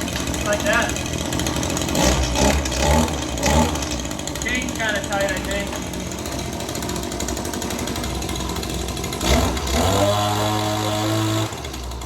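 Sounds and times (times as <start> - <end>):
pole saw engine idling and revving: 0.0 - 12.0.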